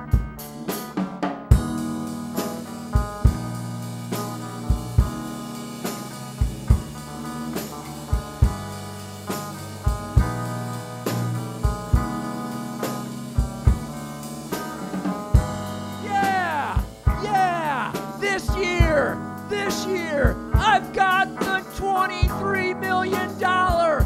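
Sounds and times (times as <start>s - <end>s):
drum kit beat: 0.0s - 24.0s
electric guitars: 0.0s - 24.0s
electric bass: 1.5s - 24.0s.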